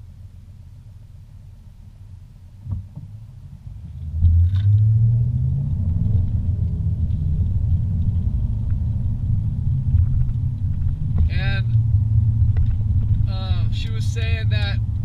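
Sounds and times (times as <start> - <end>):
car engine accelerating: 2.8 - 15.0.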